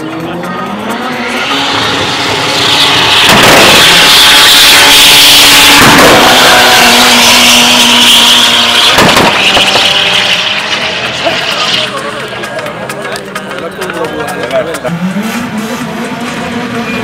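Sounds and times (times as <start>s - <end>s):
car engine revving loudly: 0.0s - 12.2s, 14.7s - 17.0s.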